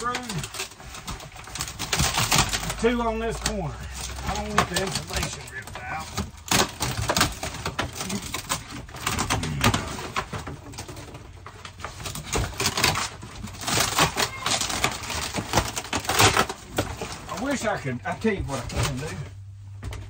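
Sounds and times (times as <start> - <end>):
wood cracking and snapping: 0.0 - 19.2.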